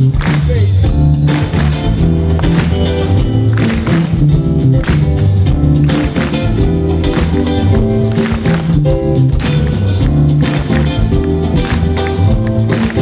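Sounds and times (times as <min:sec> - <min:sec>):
electric bass guitar: 0:00.0 - 0:13.0
acoustic guitars playing: 0:00.9 - 0:13.0.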